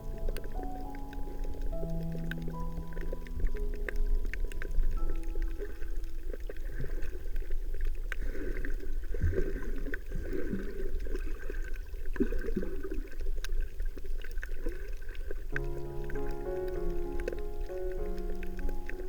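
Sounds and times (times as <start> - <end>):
gurgling bubbles: 0.0 - 19.0
underwater low rumble: 0.0 - 19.0.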